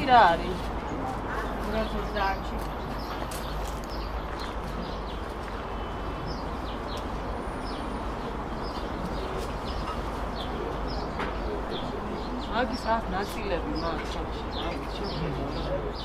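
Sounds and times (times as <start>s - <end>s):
street market background noise: 0.0s - 16.0s.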